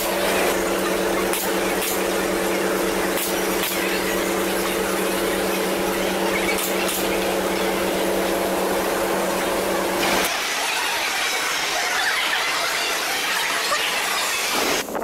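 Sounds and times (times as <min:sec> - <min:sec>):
noisy background: 0:00.0 - 0:15.0
steady mechanical hum: 0:00.0 - 0:15.0.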